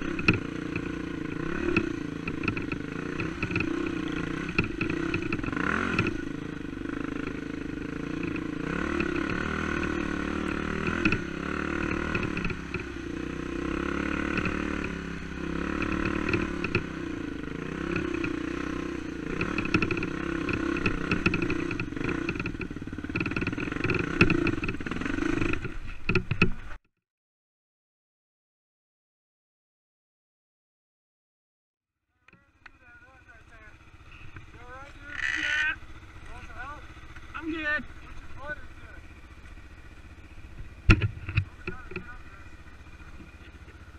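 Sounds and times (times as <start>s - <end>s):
dirt bike engine: 0.0s - 26.8s, 32.1s - 43.9s.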